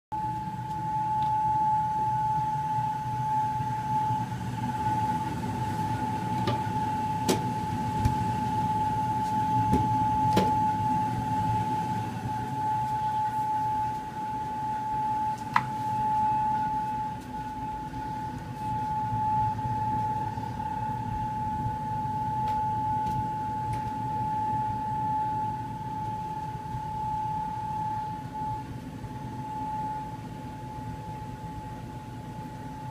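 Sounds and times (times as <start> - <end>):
hvac unit whining: 0.1 - 32.9.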